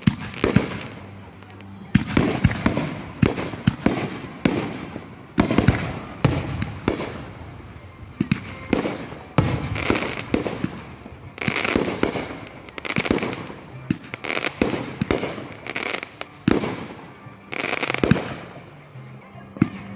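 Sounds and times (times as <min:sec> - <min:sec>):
fireworks bangs: 0:00.0 - 0:18.7.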